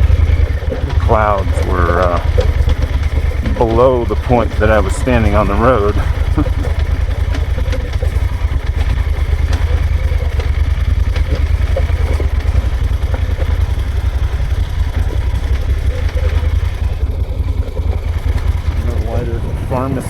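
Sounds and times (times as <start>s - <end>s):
faint clicks: 0.0s - 20.0s
motorcycle engine rumbling: 0.0s - 20.0s.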